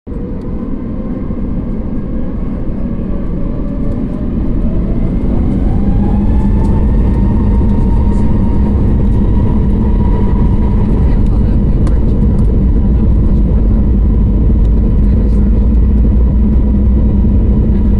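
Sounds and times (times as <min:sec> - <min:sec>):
jet engines spooling up: 0:00.1 - 0:17.9.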